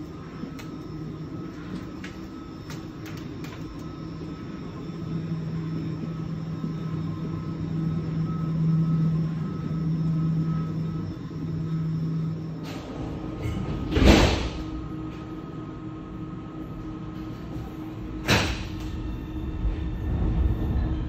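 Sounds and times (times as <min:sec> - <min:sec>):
metro train hum and rumble: 0:00.0 - 0:21.0.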